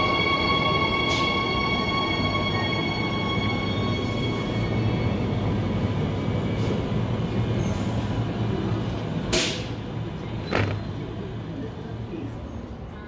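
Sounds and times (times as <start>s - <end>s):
electric train humming: 0.0s - 12.1s.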